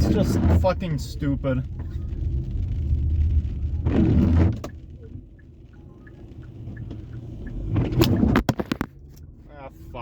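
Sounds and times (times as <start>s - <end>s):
engine and road rumble: 0.0s - 10.0s
heavy rain on car: 0.0s - 10.0s.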